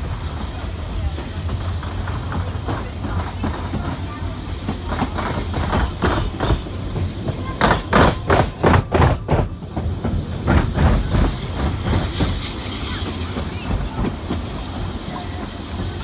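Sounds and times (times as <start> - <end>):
carriages rumbling on track: 0.0 - 16.0
steam locomotive exhaust beats: 0.0 - 16.0.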